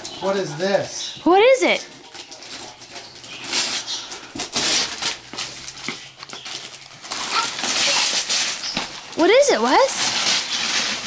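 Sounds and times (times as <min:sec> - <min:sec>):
wrapping paper tearing and crinkling: 0:01.8 - 0:11.0.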